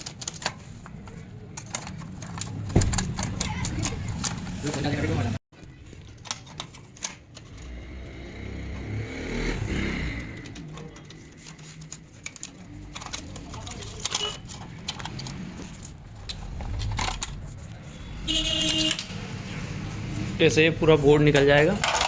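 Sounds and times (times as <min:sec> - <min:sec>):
clicks and scraping of plastic and metal: 0:00.0 - 0:07.9, 0:10.2 - 0:19.2, 0:21.2 - 0:22.0.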